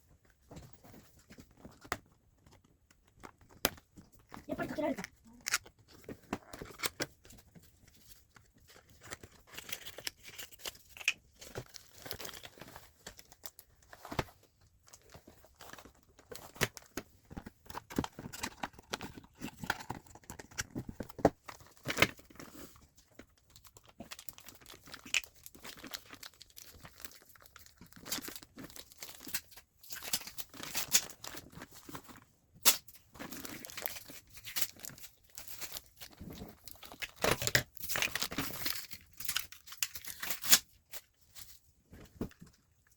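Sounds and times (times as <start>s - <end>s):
packaging crinkling and tearing: 1.5s - 41.6s.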